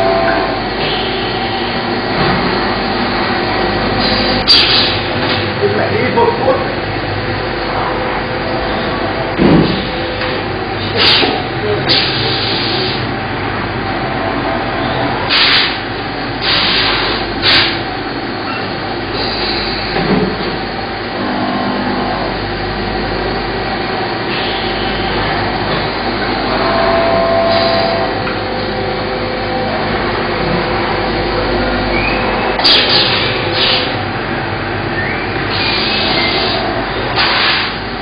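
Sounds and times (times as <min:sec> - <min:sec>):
machine shop machinery noise: 0:00.0 - 0:38.0.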